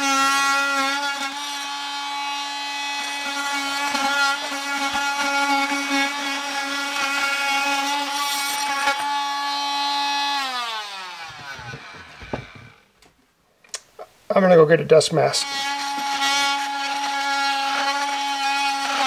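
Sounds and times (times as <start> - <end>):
oscillating multi-tool whining: 0.0 - 12.8, 15.4 - 19.0.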